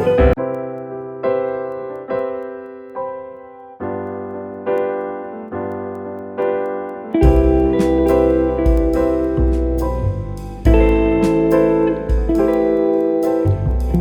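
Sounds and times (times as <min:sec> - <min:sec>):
keyboard chords: 0:00.0 - 0:14.0.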